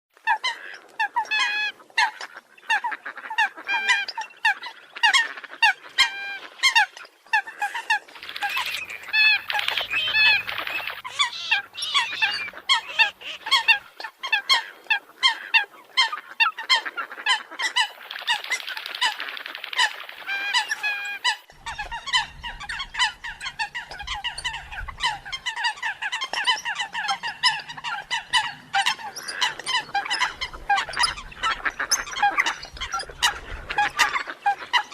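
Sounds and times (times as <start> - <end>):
coots honking calls: 0.2 - 34.9.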